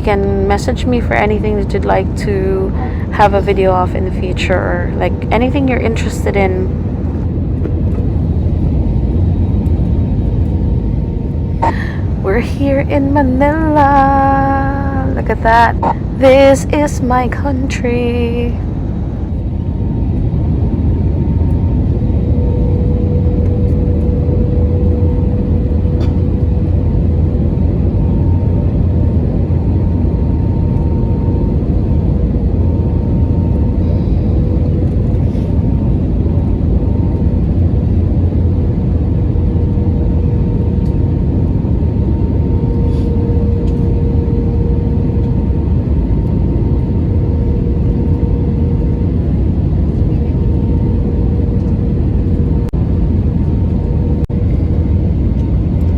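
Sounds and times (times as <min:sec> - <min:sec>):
aircraft cabin engine rumble: 0:00.0 - 0:55.9
faint steady whine: 0:00.0 - 0:55.9.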